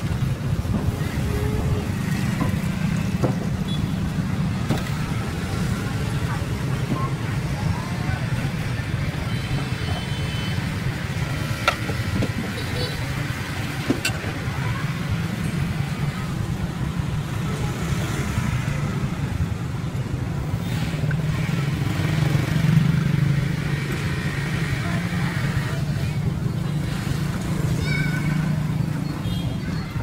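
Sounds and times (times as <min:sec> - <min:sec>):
motorbikes: 0:00.0 - 0:30.0
street traffic rumble: 0:00.0 - 0:30.0.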